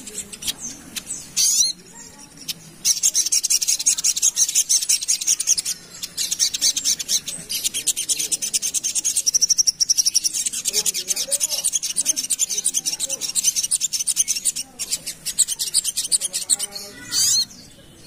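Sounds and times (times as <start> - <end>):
bird rasping chatter: 0.0 - 17.7.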